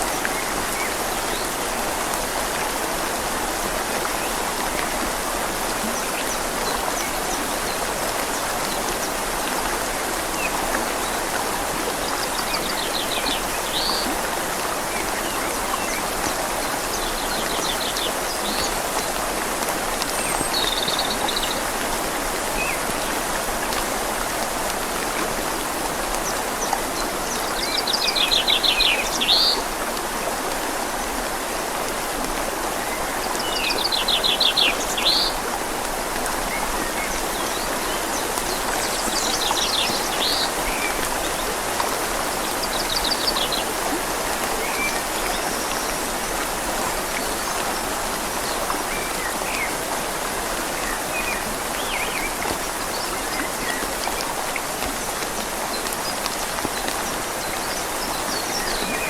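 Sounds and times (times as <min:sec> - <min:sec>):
rain falling on leaves: 0:00.0 - 0:59.0
river flowing: 0:00.0 - 0:59.0.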